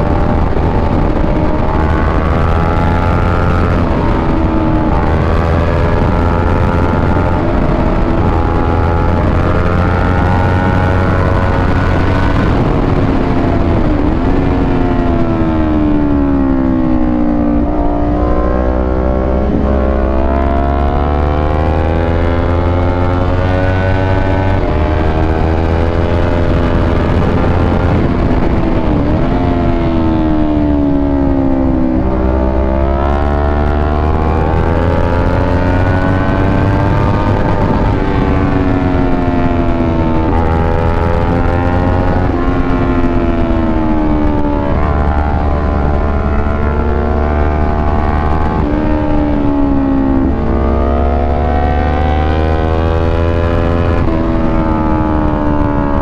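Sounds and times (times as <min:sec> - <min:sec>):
low wind rumble: 0:00.0 - 0:56.0
motorcycle engine accelerating: 0:00.0 - 0:56.0.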